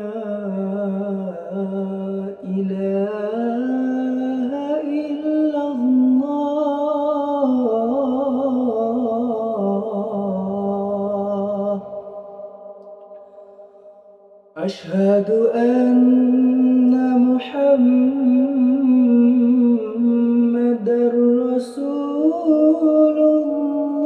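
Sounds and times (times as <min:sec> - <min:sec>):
man singing call to prayer: 0:00.0 - 0:12.2, 0:14.6 - 0:24.0.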